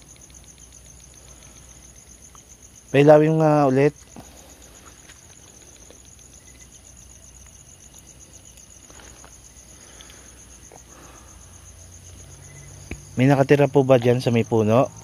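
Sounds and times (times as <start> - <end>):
crickets chirping trill: 0.0 - 15.0.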